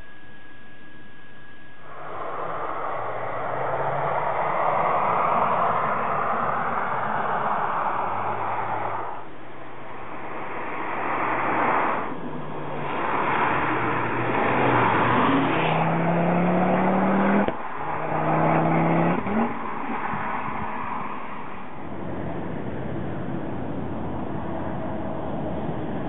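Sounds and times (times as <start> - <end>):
road and wind noise: 1.4 - 26.0
car engine accelerating hard: 1.8 - 9.3, 10.4 - 26.0.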